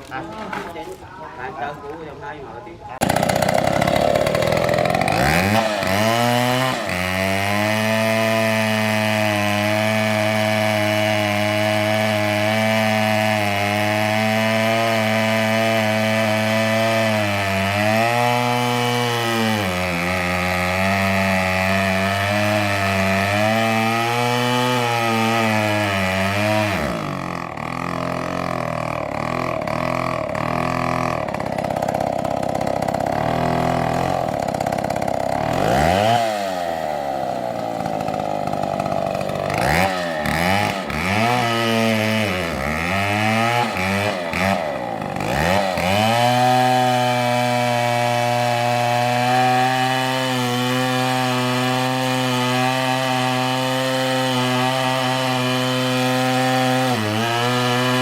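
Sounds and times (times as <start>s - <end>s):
chainsaw cutting wood: 0.0s - 2.2s, 2.9s - 58.0s.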